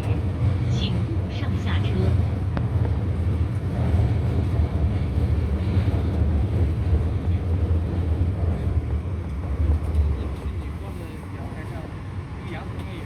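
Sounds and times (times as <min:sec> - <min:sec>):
low rumble inside train carriage: 0:00.0 - 0:13.0.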